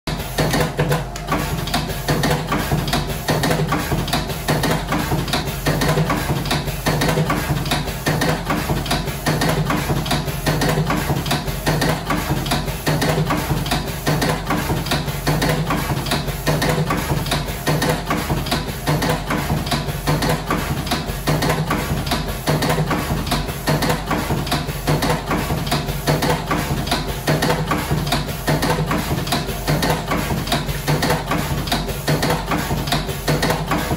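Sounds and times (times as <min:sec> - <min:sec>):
machine motor hum: 0:00.1 - 0:33.9.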